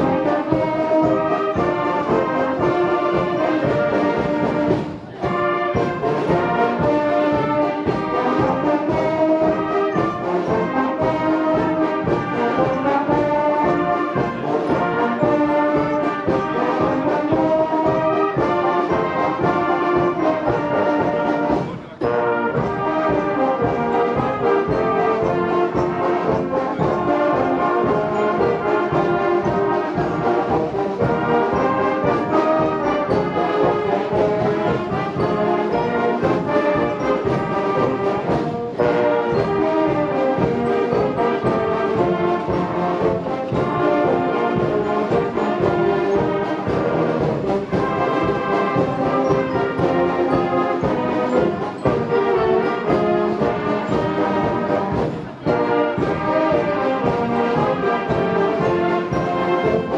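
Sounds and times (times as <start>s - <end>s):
massed brass bands playing: 0.0s - 59.9s.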